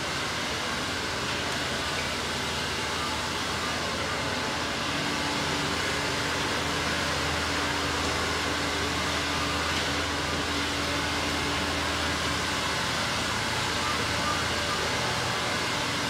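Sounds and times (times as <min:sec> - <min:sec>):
mechanical hum and whooshing: 0:00.0 - 0:16.0.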